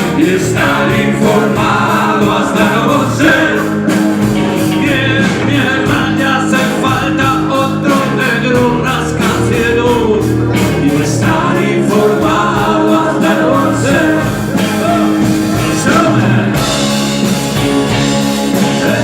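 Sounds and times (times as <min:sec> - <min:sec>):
drums keeping a steady beat: 0:00.0 - 0:19.0
rock band playing: 0:00.0 - 0:19.0.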